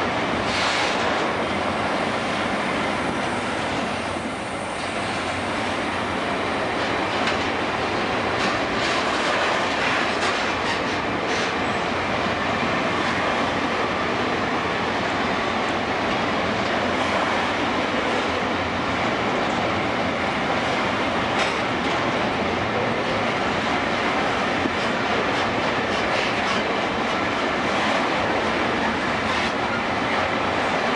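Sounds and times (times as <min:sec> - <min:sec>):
steel wheels rolling on rail: 0:00.0 - 0:30.9.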